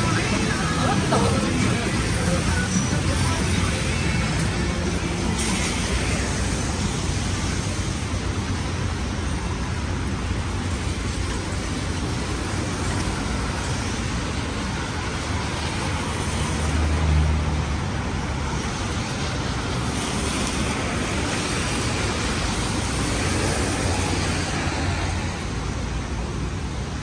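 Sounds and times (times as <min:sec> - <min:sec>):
rain hissing: 0:00.0 - 0:26.7
traffic on wet road: 0:00.0 - 0:27.0.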